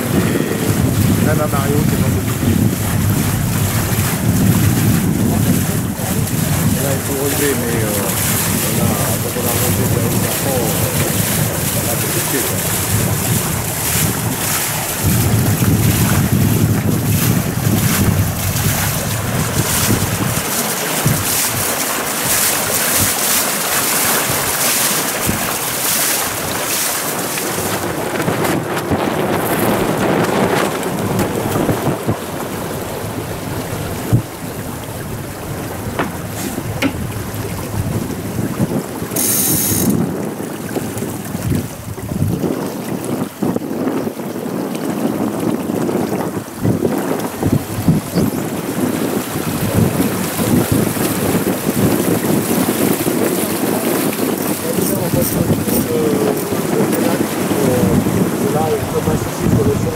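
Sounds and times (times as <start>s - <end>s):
water rushing along hulls: 0.0s - 59.9s
wind buffeting microphone: 0.0s - 59.9s.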